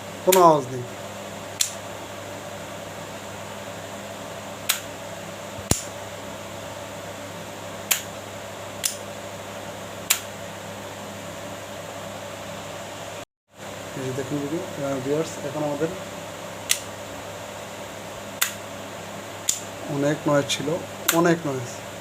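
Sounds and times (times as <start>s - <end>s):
faint background hum: 0.0s - 22.0s.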